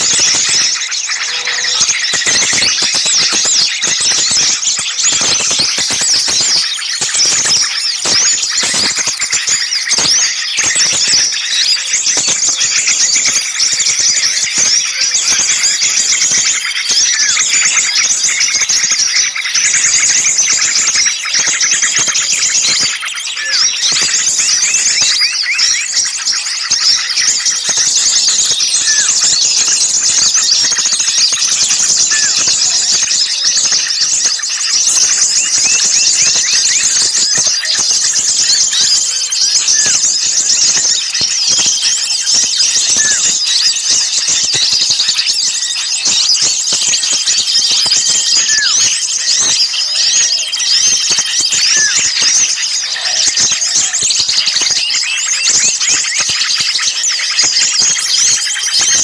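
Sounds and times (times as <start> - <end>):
songbirds chattering and calling: 0.0 - 59.0.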